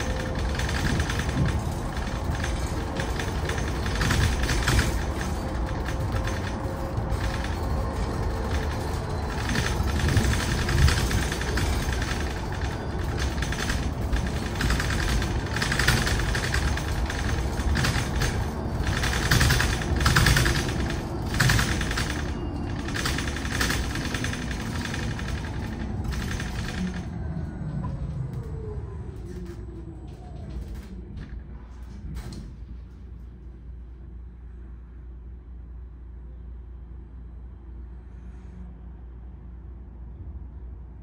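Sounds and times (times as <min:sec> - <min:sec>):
bus body rattling: 0:00.0 - 0:33.4
low road rumble: 0:00.0 - 0:41.0.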